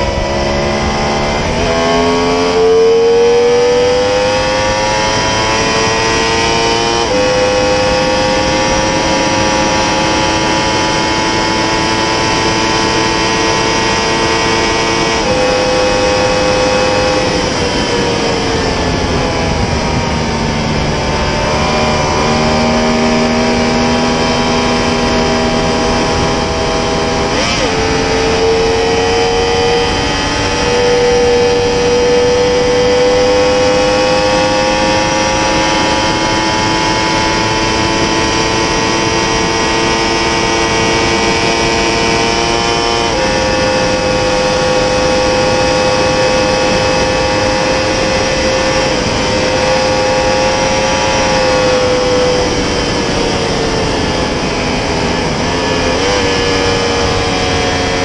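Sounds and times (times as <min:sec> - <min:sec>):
heavy wind rush: 0:00.0 - 0:58.0
motorcycle engine running hard: 0:00.0 - 0:58.0.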